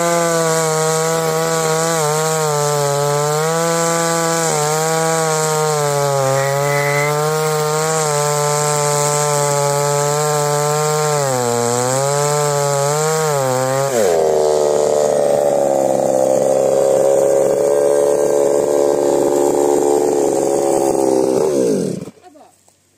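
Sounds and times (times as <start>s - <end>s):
chainsaw ripping through log: 0.0s - 22.2s.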